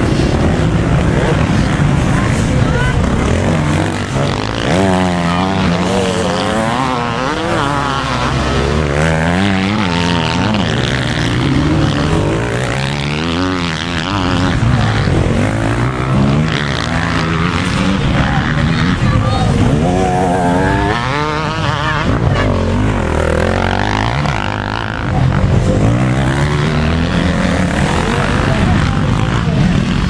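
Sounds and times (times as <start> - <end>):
motocross bike engines revving: 0.0 - 30.0.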